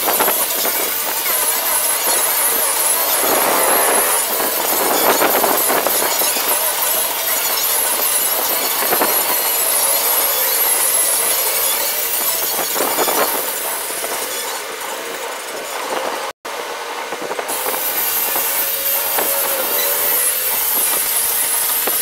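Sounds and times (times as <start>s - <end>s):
sandpaper rasping on fiberglass hull: 0.0s - 16.3s, 17.5s - 22.0s.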